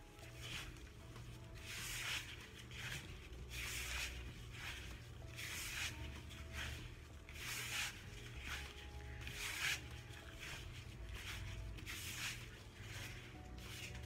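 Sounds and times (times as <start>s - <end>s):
hands mixing powder: 0.0s - 14.0s
soft background music: 0.0s - 14.0s.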